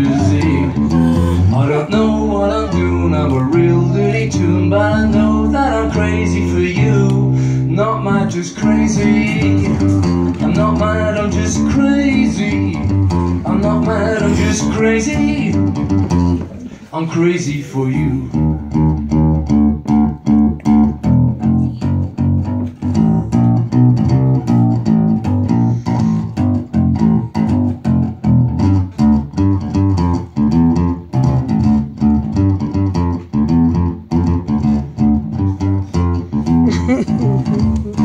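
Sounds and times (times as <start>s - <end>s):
acoustic bass guitar plucking: 0.0s - 38.0s.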